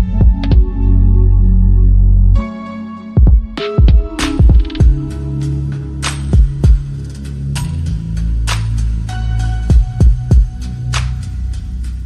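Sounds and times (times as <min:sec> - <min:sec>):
background music with deep bass: 0:00.0 - 0:12.0.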